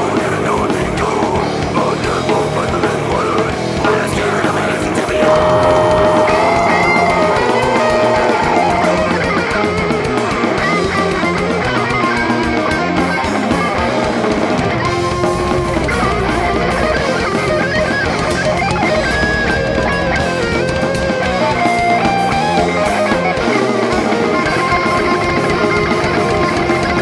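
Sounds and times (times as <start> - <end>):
heavy metal music: 0.0 - 27.0
melodic lead guitar: 4.8 - 27.0.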